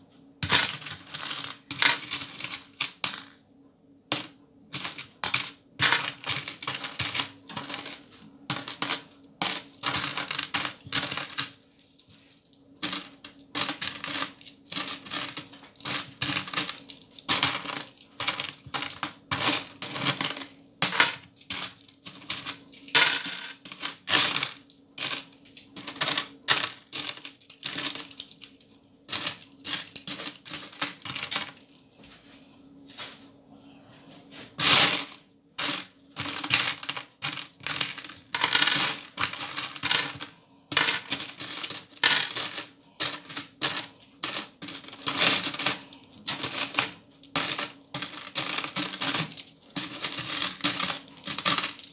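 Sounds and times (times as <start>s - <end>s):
coins clinking and jingling: 0.4s - 3.3s, 4.8s - 31.7s, 34.6s - 51.9s.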